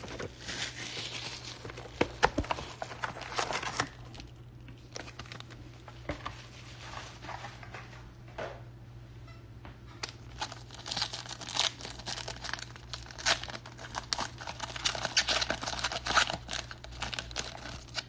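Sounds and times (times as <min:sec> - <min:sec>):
packaging rustling and crinkling: 0:00.0 - 0:07.7, 0:10.0 - 0:18.0.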